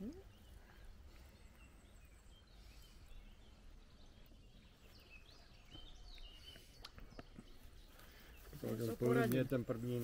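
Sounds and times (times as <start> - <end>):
faint birdsong chirps: 0.0 - 10.0.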